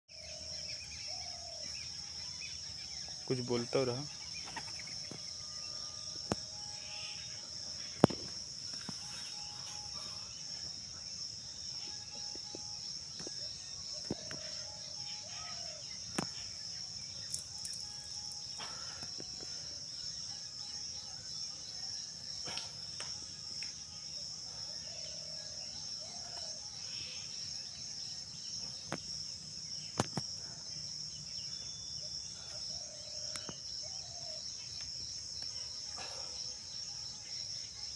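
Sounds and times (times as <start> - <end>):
insects chirring: 0.1 - 37.9.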